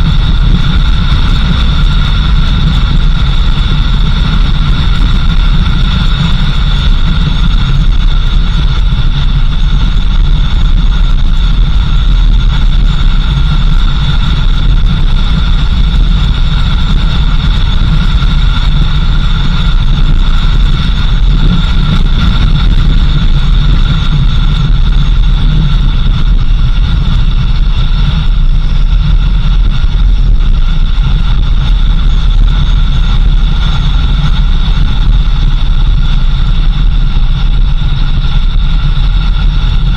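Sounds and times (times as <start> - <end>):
engine and road rumble: 0.0 - 39.9.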